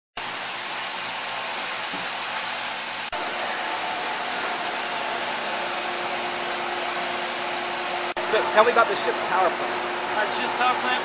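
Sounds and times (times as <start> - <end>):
machinery and ventilation roar: 0.2 - 11.0.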